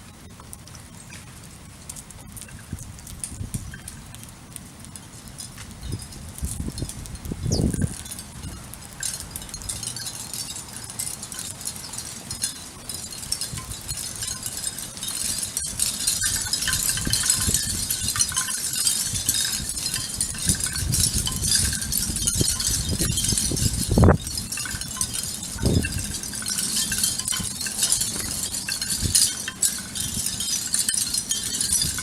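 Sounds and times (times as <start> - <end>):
steady high hiss: 0.0 - 32.0.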